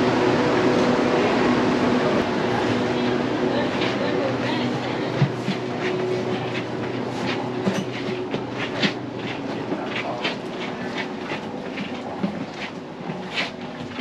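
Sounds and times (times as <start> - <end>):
train carriage rumble: 0.0 - 14.0.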